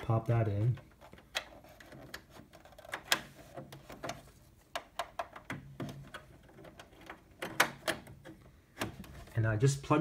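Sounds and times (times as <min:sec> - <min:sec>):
plastic plug clicks and scrapes: 0:00.7 - 0:09.3.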